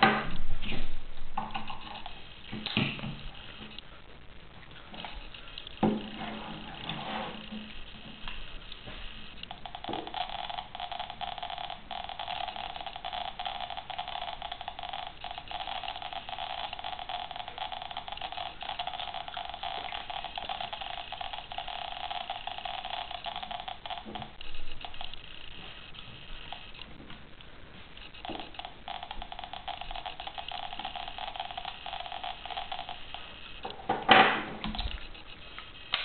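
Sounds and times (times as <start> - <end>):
geiger counter clicking rapidly: 1.4 - 3.8, 4.9 - 36.0.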